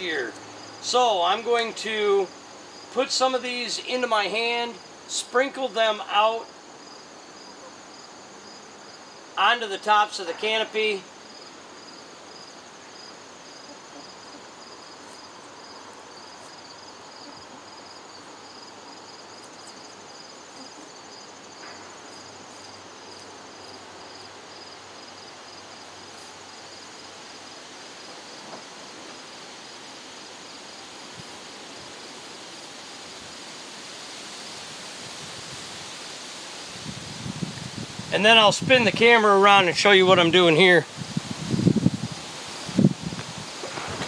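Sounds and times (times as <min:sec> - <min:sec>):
insects trilling: 0:00.0 - 0:44.0
low background hiss: 0:00.0 - 0:44.0.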